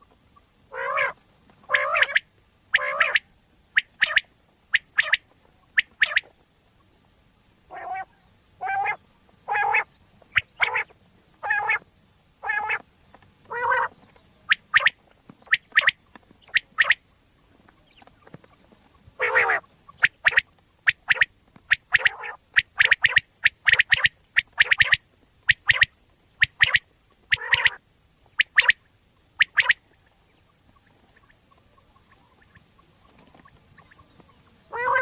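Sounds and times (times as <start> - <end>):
quail calling: 0.3 - 6.3, 7.7 - 35.0.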